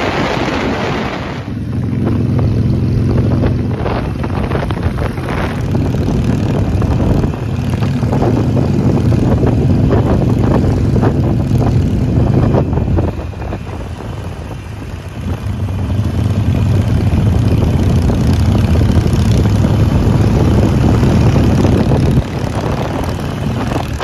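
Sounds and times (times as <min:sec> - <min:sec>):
motorcycle engine humming: 0:00.0 - 0:24.0.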